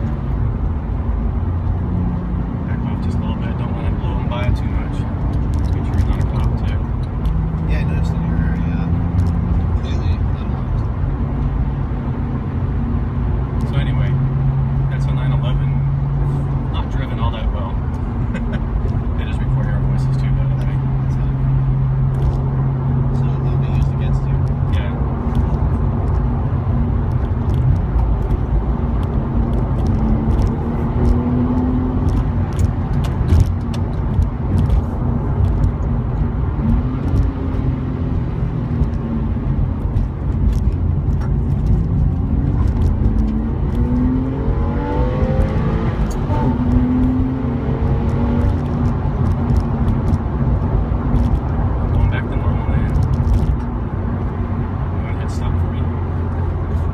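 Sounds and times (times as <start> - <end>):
car engine revving: 0.0 - 56.9
road rumble: 0.0 - 56.9.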